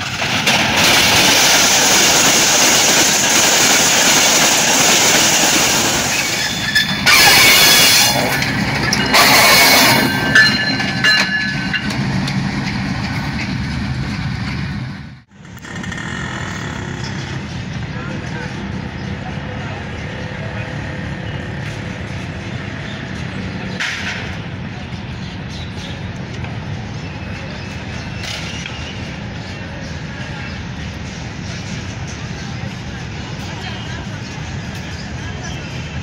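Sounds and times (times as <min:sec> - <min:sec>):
steady background noise: 0:00.0 - 0:36.0
train wheels rumbling on rail: 0:00.0 - 0:36.0.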